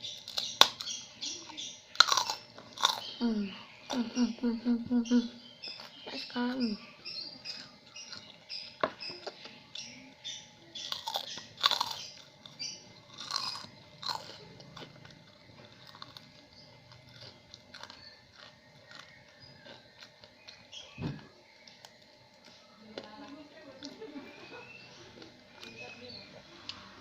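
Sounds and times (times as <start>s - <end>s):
person chewing crunchy food: 0.0s - 4.3s, 5.4s - 24.0s, 25.0s - 27.0s.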